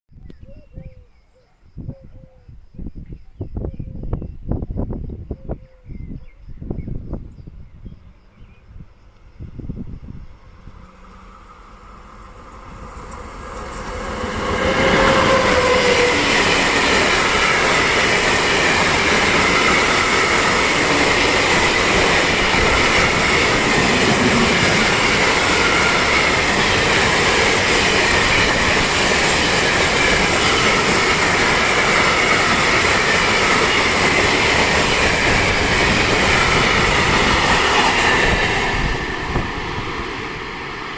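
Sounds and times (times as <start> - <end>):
train wheels rumbling on rails: 6.8 - 40.9.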